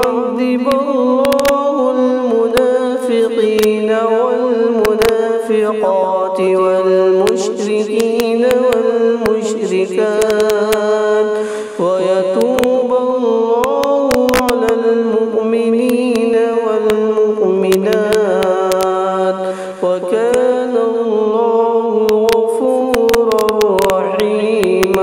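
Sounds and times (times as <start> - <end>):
person reciting melodically: 0.0 - 25.0.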